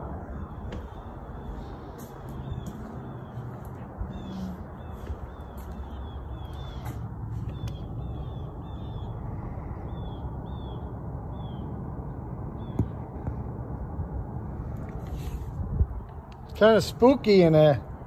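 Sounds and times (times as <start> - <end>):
low rush of outdoor noise: 0.0 - 18.0.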